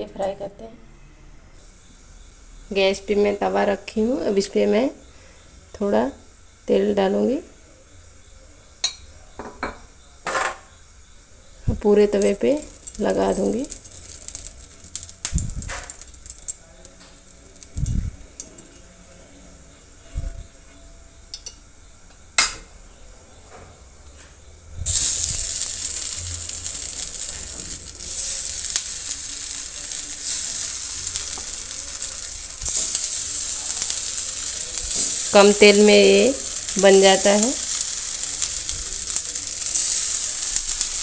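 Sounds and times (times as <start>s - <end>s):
food sizzling in hot oil: 1.6s - 20.0s, 24.8s - 41.0s.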